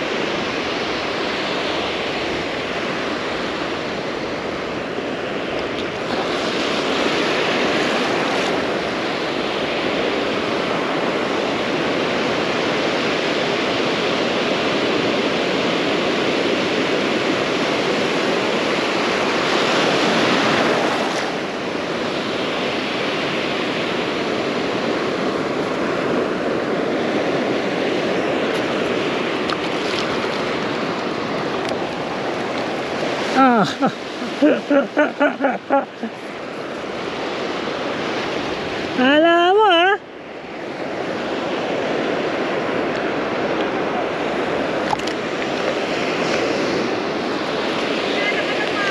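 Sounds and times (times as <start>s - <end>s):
ocean surf washing onto beach: 0.0s - 48.9s
waves breaking: 0.0s - 48.9s.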